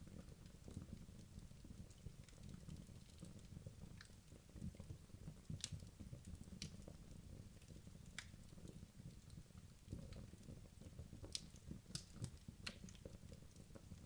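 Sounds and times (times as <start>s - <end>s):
burning logs crackling and popping: 0.0s - 14.0s.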